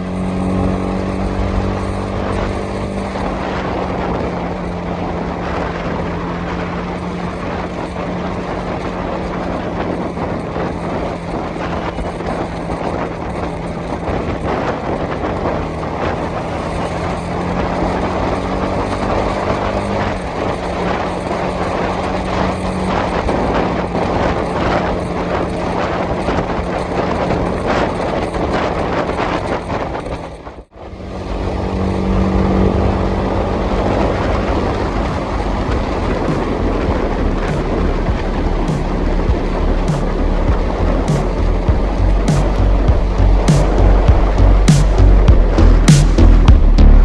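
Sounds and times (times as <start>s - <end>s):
motorcycle engine running: 0.0s - 29.6s, 30.7s - 47.0s
wind rush: 0.0s - 46.8s
road noise: 0.0s - 47.0s.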